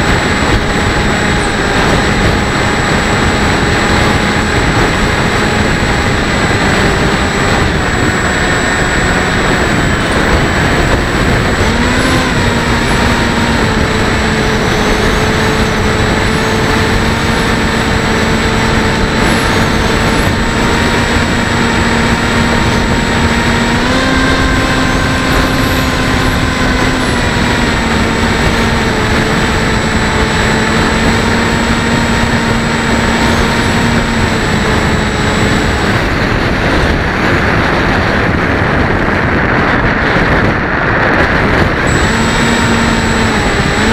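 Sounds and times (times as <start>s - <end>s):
model plane electric motor: 0.0s - 43.9s
wind rush: 0.0s - 43.9s.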